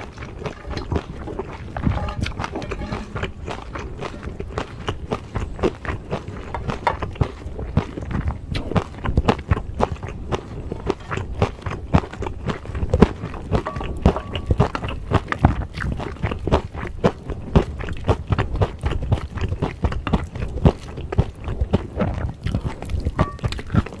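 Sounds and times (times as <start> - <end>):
close chewing and mouth sounds: 0.0 - 24.0.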